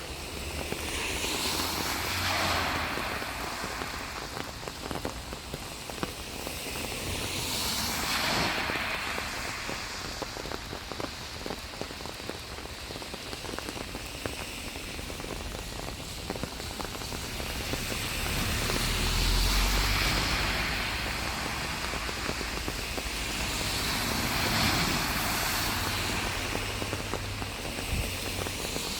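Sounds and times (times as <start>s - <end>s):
rain falling: 0.0s - 28.9s
raindrops hitting close by: 0.0s - 28.9s.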